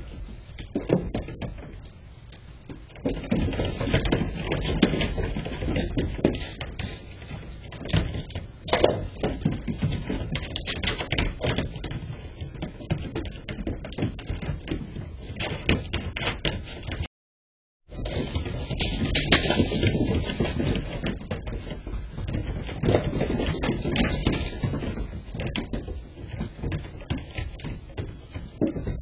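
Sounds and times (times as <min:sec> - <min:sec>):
hooves clattering on wooden deck: 0:00.0 - 0:17.1, 0:17.9 - 0:29.0.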